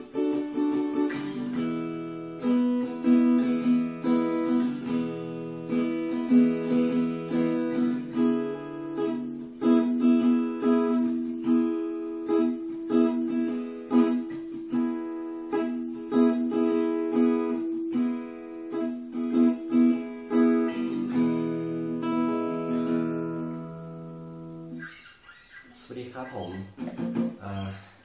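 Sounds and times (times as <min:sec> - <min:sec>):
acoustic guitar chords: 0:00.0 - 0:27.8.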